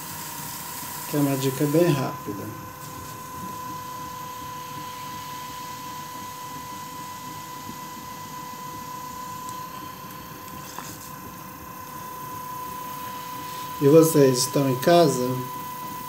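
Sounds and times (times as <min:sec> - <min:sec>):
potter's wheel motor whine: 0:00.0 - 0:16.0.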